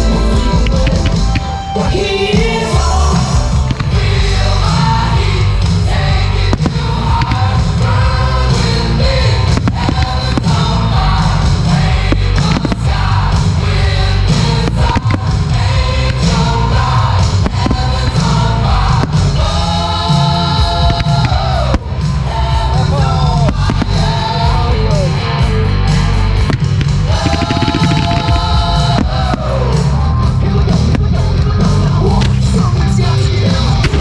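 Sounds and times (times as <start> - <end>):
fireworks bursting: 0.0 - 34.0
loud song with heavy bass: 0.0 - 34.0.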